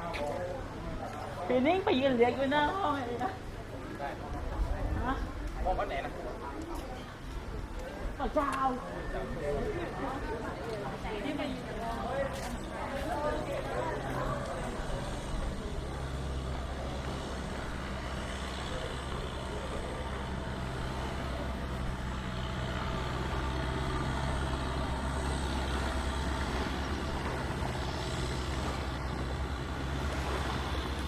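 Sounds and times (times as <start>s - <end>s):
engine droning: 0.0s - 31.0s.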